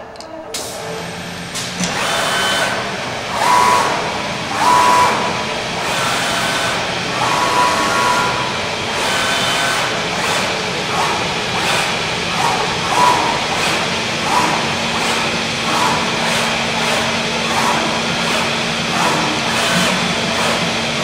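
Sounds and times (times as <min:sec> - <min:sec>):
cutter head sweeping: 0:01.6 - 0:21.0.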